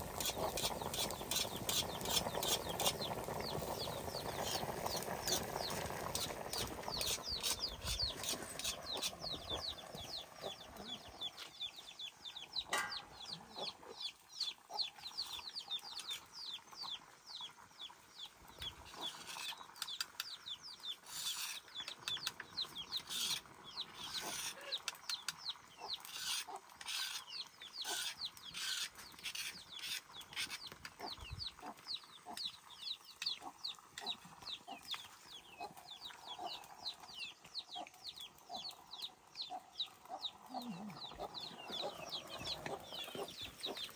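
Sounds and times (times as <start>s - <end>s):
chicks peeping: 0.2s - 21.0s, 21.7s - 43.9s.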